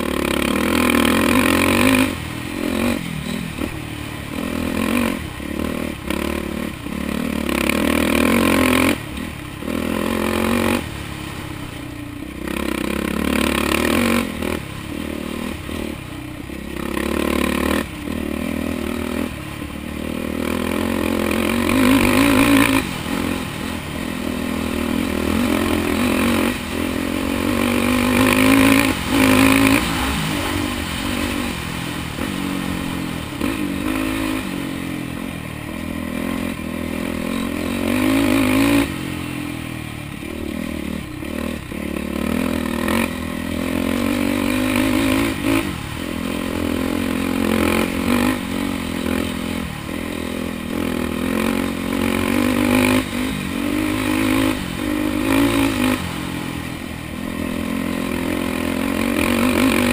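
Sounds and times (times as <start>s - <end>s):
quad bike engine revving: 0.0s - 59.9s.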